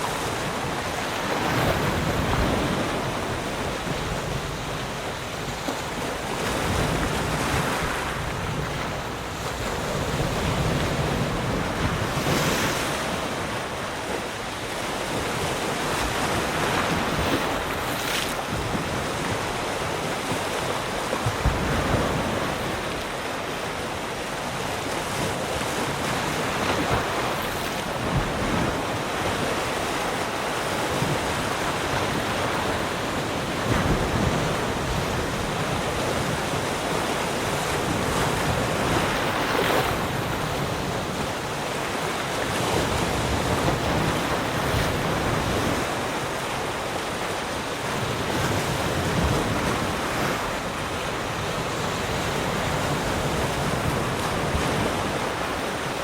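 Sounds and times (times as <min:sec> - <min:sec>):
waves washing ashore: 0:00.0 - 0:56.0.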